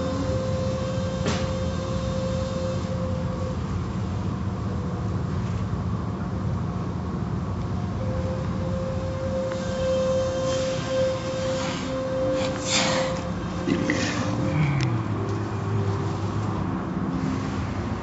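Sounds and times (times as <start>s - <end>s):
hum: 0.0s - 18.0s
low rumble of machinery: 0.0s - 18.0s.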